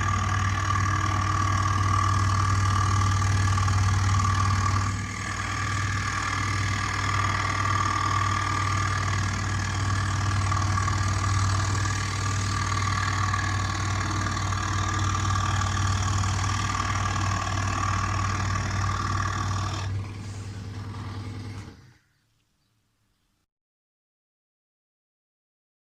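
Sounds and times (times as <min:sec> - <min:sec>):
scroll saw running: 0:00.0 - 0:22.0.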